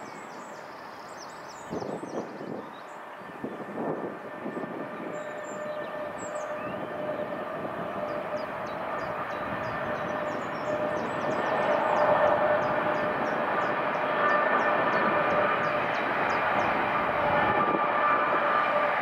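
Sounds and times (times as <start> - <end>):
freight train rumble: 0.0 - 19.0
locomotive whine: 2.8 - 19.0.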